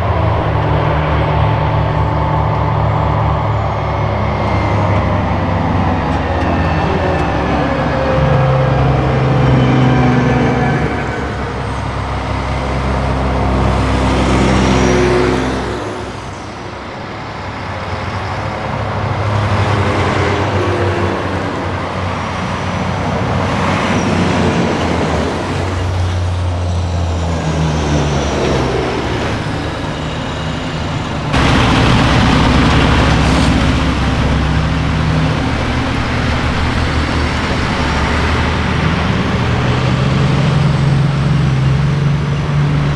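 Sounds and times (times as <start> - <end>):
truck diesel engines driving by: 0.0 - 42.9.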